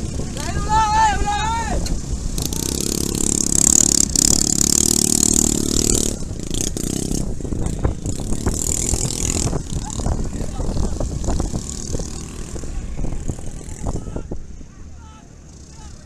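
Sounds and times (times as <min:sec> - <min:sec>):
scooter engines droning: 0:00.0 - 0:16.0.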